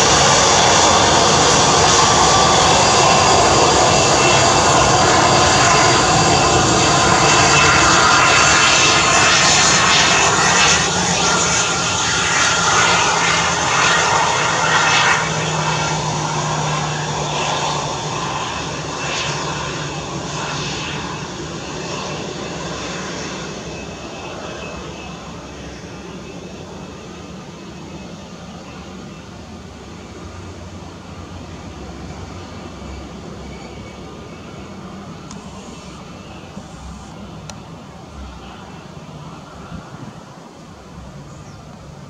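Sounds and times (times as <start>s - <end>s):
jet engine whine: 0.0s - 42.0s.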